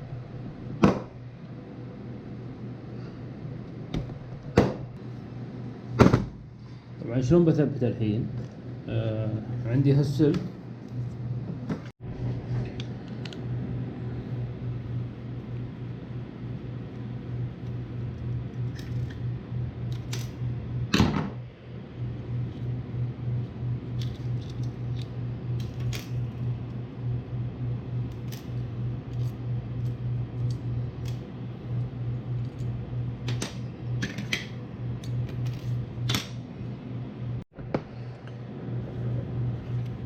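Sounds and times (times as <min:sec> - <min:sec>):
low hum with fast flutter: 0:00.0 - 0:40.0.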